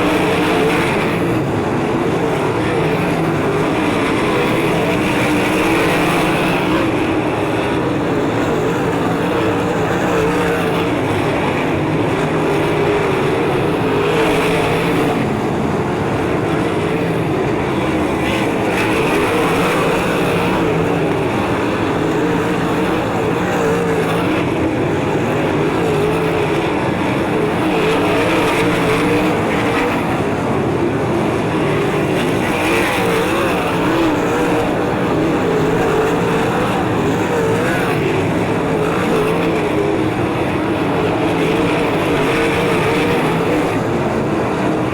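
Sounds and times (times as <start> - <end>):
race car engines racing: 0.0 - 44.9.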